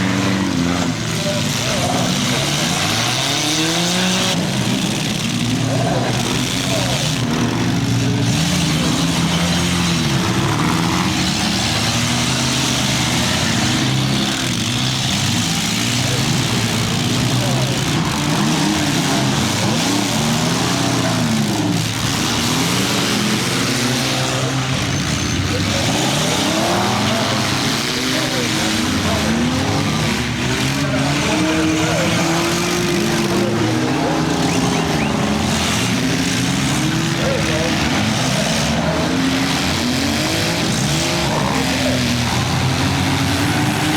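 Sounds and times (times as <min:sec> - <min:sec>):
dense noisy background: 0:00.0 - 0:43.9
small car engines revving: 0:00.0 - 0:43.9.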